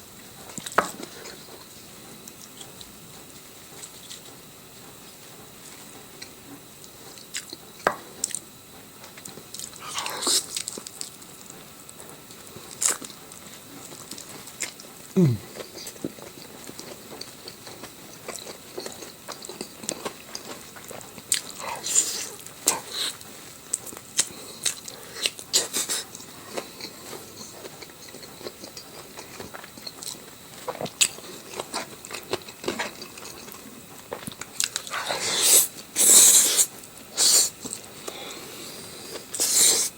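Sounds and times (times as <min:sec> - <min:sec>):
person chewing crunchy food: 0:06.1 - 0:39.9.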